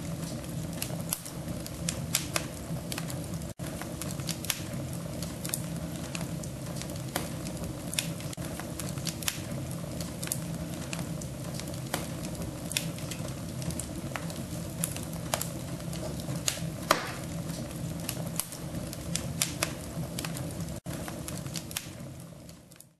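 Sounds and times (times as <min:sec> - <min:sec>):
fire crackling in a stove: 0:00.0 - 0:22.9.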